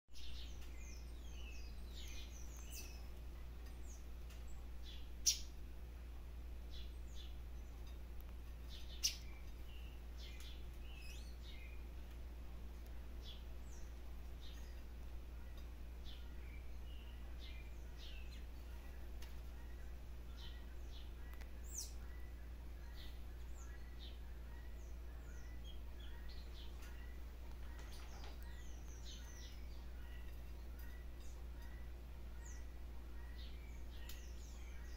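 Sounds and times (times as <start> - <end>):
small birds chirping: 0.1 - 34.9
steady low hum: 0.1 - 34.9
low background rumble: 0.2 - 34.9.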